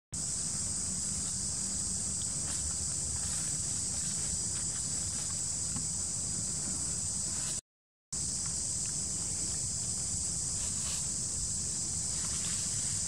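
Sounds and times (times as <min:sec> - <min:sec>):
high-pitched insect chorus buzzing: 0:00.2 - 0:07.6, 0:08.2 - 0:13.0.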